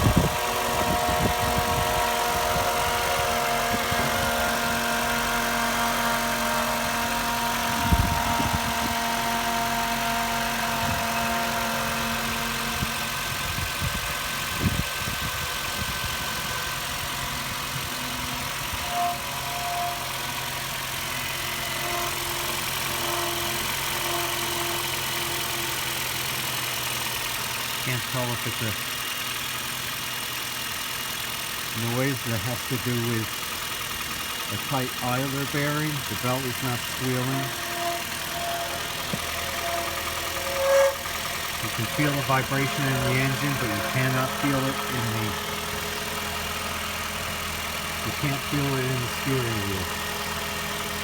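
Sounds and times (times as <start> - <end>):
car engine idling: 0.0 - 51.0
pitched engine drone: 0.0 - 51.0.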